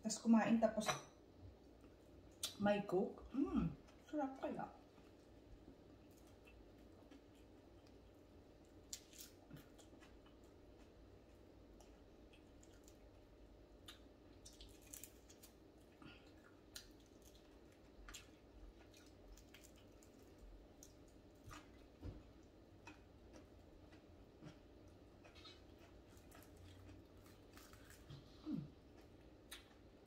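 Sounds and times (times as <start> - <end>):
low room hum: 0.0 - 30.0
quiet chewing: 4.7 - 30.0.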